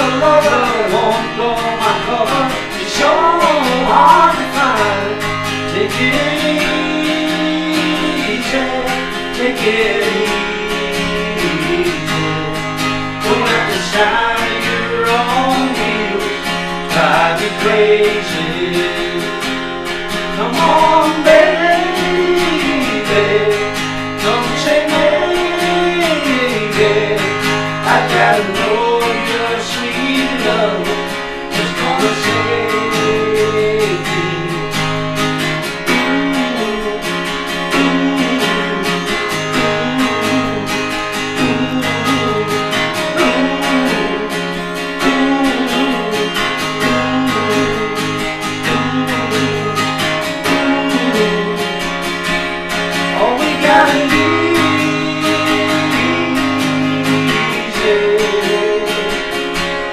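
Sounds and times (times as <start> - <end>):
men singing: 0.0 - 35.1, 35.7 - 52.3, 53.0 - 59.5
acoustic guitars strumming: 0.0 - 59.9.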